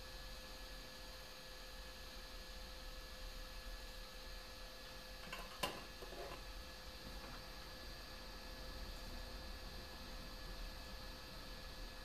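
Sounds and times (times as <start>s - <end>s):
hot air gun hum and hiss: 0.0s - 12.0s.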